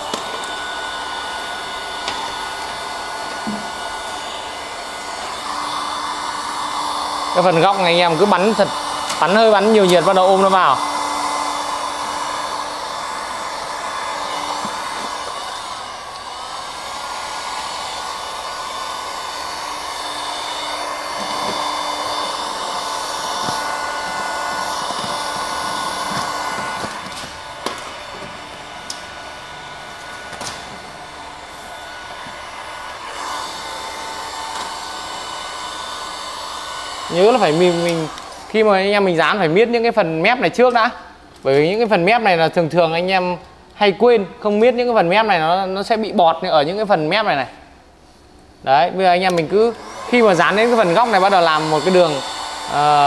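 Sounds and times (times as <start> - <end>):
heat gun blowing: 0.0 - 39.5, 49.2 - 53.0.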